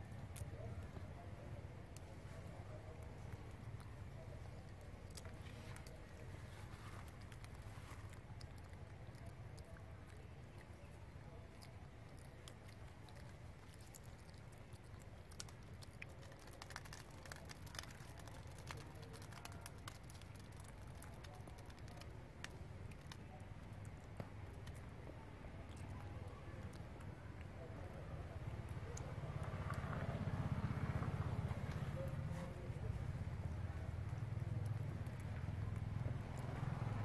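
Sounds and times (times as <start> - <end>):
light clicks and crackles: 0.0 - 37.0
low steady rumble: 0.0 - 37.0.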